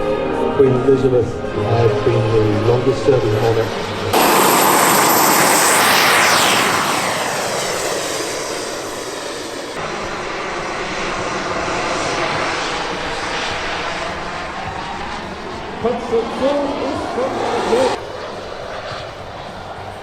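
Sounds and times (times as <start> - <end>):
model aircraft flying past: 1.0 - 20.0.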